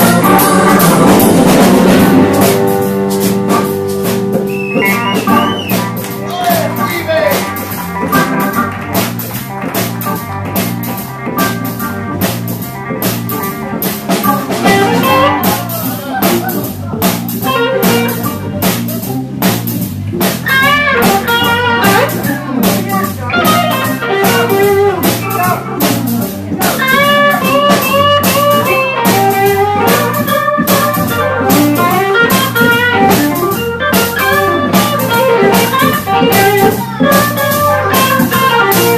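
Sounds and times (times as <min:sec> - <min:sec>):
bass line: 0:00.0 - 0:38.9
drum kit beat: 0:00.0 - 0:38.9
lead guitar solo: 0:04.2 - 0:19.2, 0:20.4 - 0:38.9.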